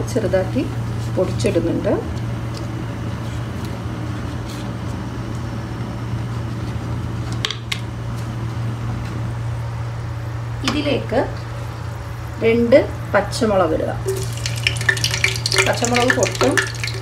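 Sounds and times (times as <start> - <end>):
low fan hum: 0.0 - 17.0.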